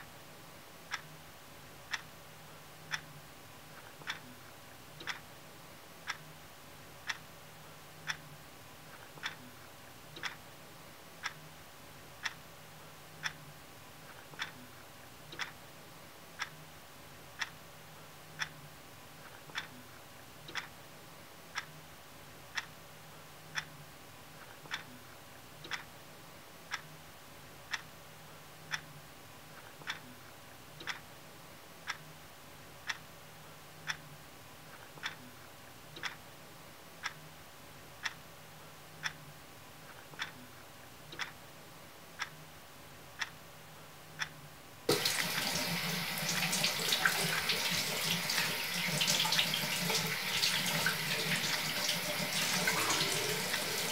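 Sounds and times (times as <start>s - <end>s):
clock ticking: 0.9s - 1.2s, 1.8s - 5.4s, 6.0s - 10.6s, 11.2s - 20.9s, 21.5s - 26.0s, 26.6s - 31.2s, 31.8s - 41.5s, 42.1s - 42.5s, 43.1s - 43.5s, 44.1s - 53.9s.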